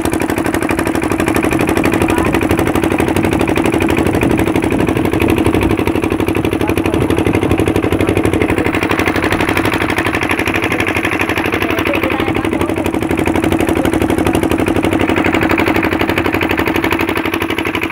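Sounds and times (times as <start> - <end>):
boat engine running: 0.0 - 17.9.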